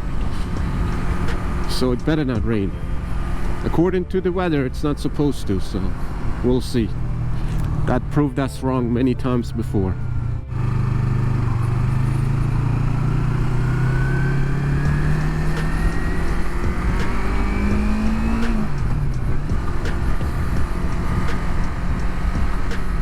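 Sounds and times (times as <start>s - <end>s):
motorcycle engine accelerating: 0.0s - 3.9s, 4.6s - 8.2s, 9.8s - 23.0s.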